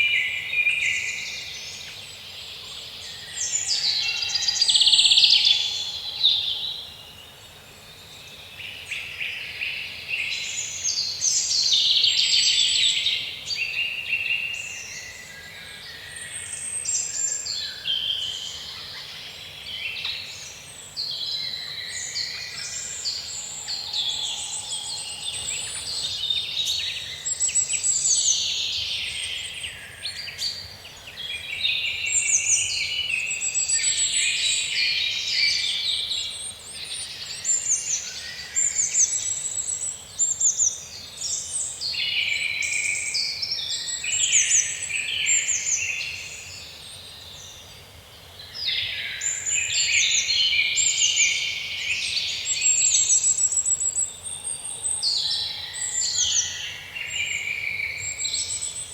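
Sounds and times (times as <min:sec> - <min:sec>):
songbirds singing: 0:00.0 - 0:58.9.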